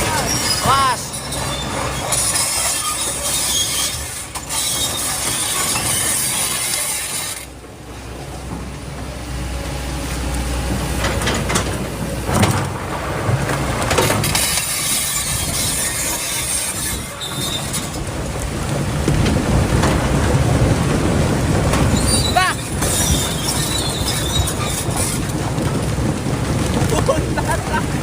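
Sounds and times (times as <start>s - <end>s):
rattling and scraping: 0.0s - 9.2s, 10.2s - 28.0s
excavator engine rumbling: 0.0s - 28.0s.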